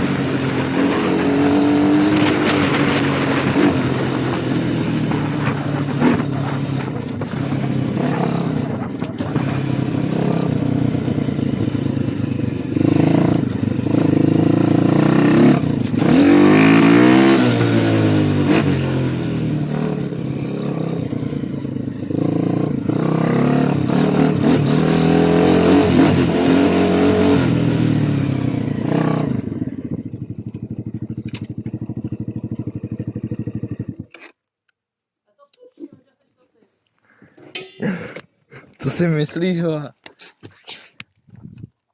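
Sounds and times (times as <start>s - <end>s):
small motorcycle engine revving: 0.0s - 34.4s.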